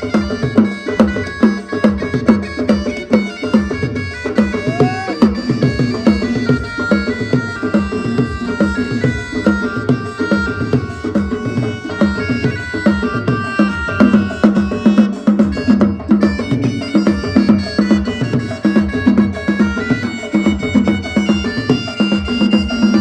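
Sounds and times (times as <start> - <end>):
fast drum rhythm: 0.0 - 23.0
keyboard melody in held notes: 0.0 - 23.0.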